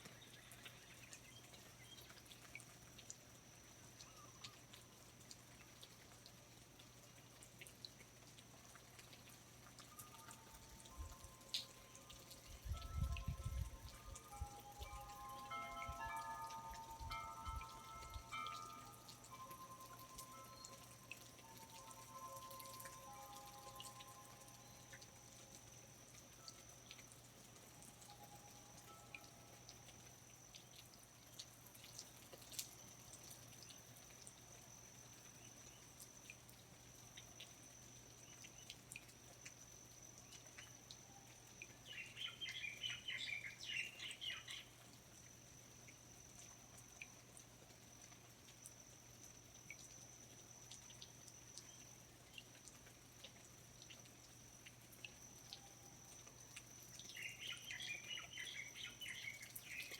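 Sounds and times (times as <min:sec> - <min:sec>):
water drips: 0:00.0 - 0:59.9.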